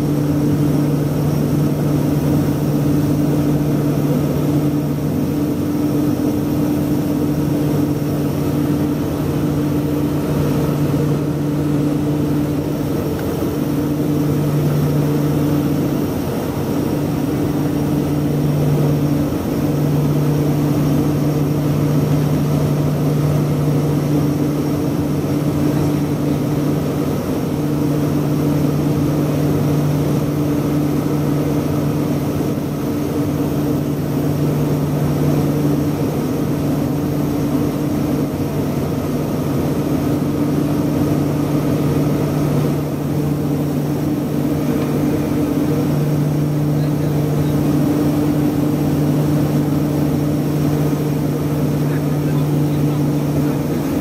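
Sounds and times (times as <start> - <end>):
turboprop cabin drone: 0.0 - 54.0.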